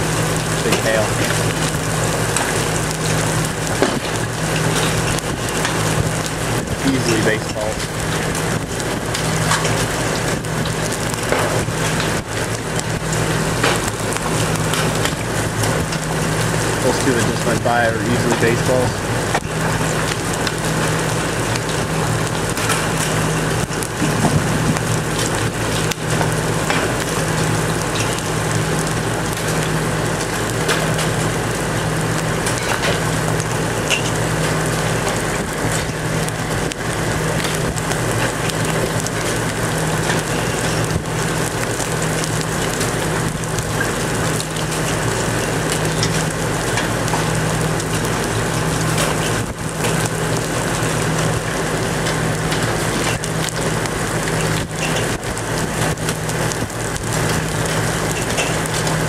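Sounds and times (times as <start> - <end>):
hailstones knocking on surfaces: 0.0 - 59.0
heavy rain hissing: 0.0 - 59.0
low hum: 0.0 - 59.0.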